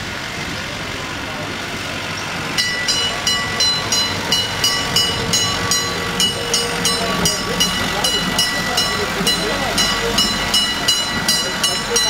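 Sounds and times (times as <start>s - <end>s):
railcar rolling along track: 0.0s - 12.0s
railway warning bell ringing: 2.2s - 12.0s.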